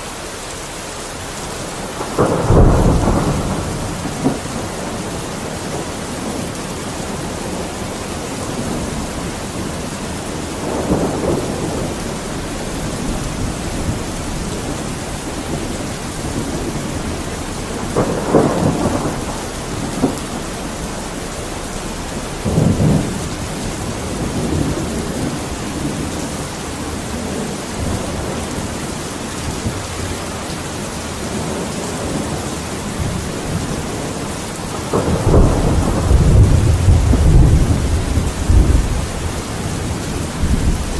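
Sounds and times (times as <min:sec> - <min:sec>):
steady rain: 0:00.0 - 0:40.9
thunder rolling: 0:01.8 - 0:40.9.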